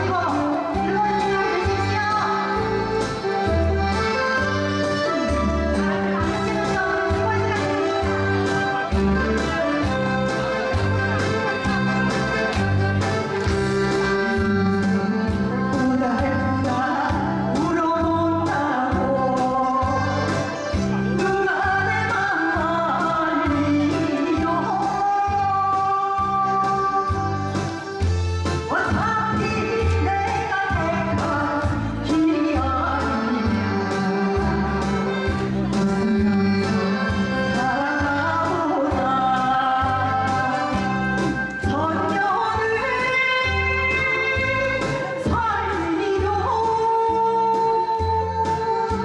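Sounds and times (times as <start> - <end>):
woman singing into a microphone: 0.0 - 8.8, 13.9 - 49.0
backing track with steady beat: 0.0 - 49.0.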